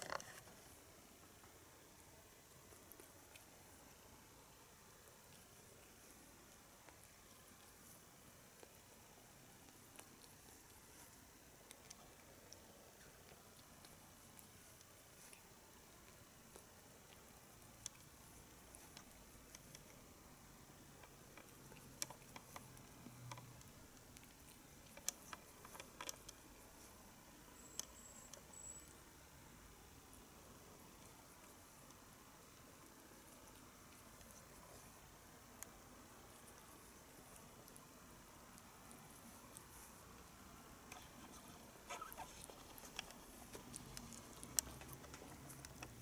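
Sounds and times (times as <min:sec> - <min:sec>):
cat licking fur: 0:00.1 - 0:46.0.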